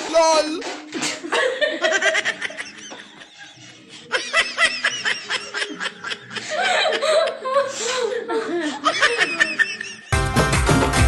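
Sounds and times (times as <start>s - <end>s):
women laughing hard: 1.1s - 10.2s.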